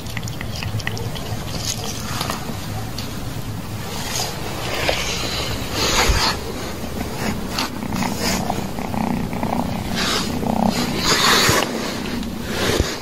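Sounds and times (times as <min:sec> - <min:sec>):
kitten purring: 0:00.0 - 0:03.1, 0:03.9 - 0:13.0.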